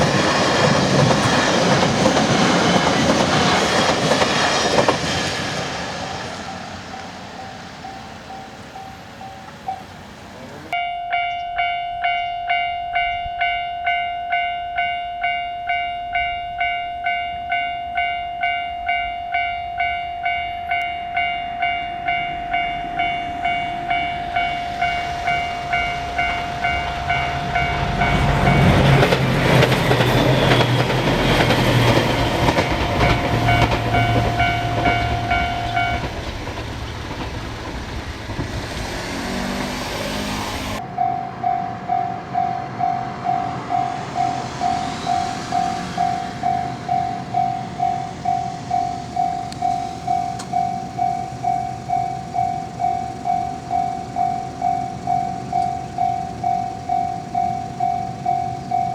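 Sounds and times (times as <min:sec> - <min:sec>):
level-crossing warning bell ringing: 0:00.0 - 0:58.9
train rumbling and wheels clattering: 0:00.0 - 0:58.9.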